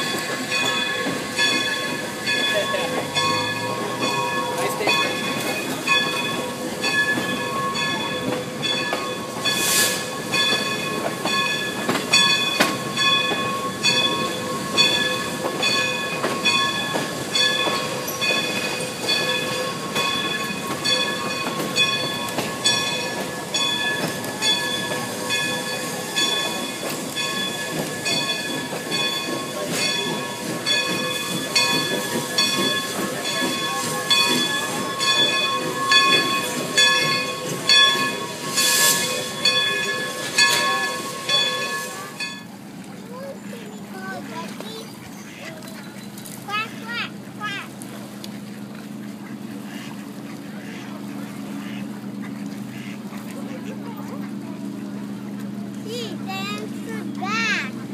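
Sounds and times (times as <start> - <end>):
train rumble: 0.0 - 57.9
wheels clicking over rail joints: 0.0 - 57.9.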